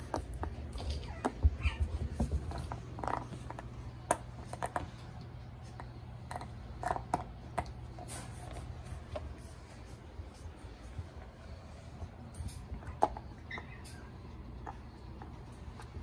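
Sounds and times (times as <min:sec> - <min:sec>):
puppy playing with rubber ball: 0:00.0 - 0:11.3, 0:11.9 - 0:16.0.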